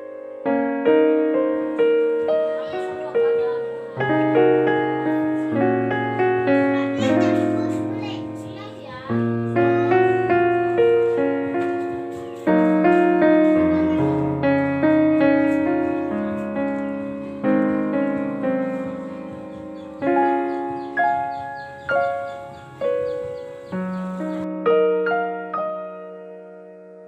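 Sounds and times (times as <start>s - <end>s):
slow gentle piano music: 0.0s - 27.0s.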